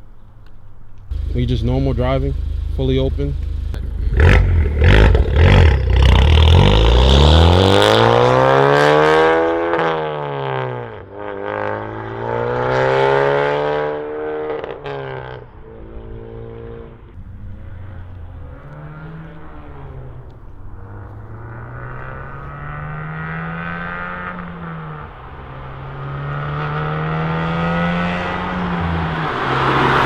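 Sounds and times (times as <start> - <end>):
car engine accelerating hard: 1.1 - 30.0.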